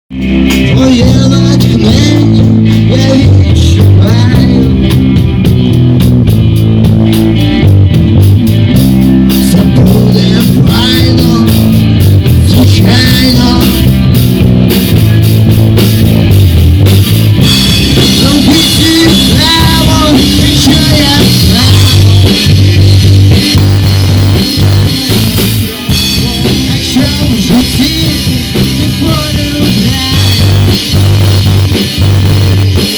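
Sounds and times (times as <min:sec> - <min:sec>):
rock band playing: 0:00.1 - 0:32.9.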